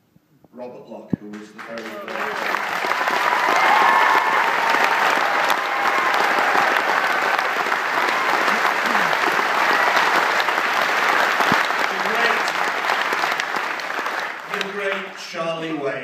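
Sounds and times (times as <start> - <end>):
audience clapping: 1.2 - 15.2
people cheering: 1.4 - 15.2.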